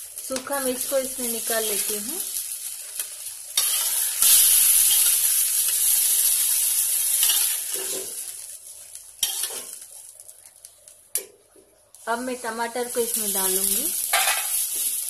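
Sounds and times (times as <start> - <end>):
hot oil sizzling in a pan: 0.0 - 11.3, 11.9 - 15.0.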